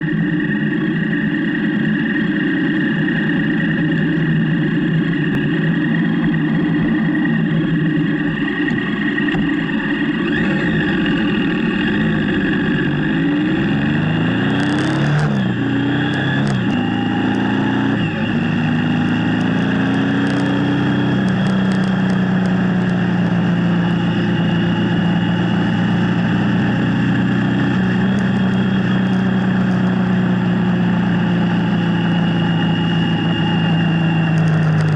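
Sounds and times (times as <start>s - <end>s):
motorcycle engine changing gears: 0.0s - 34.9s.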